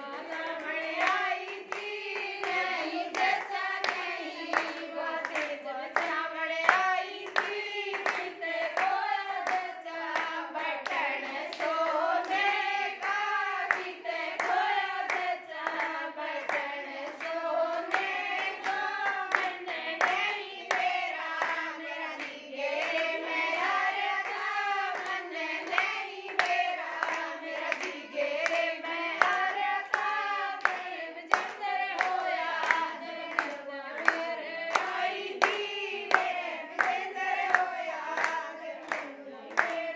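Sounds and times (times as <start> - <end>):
women singing folk song: 0.0 - 39.9
hand claps: 0.1 - 39.9.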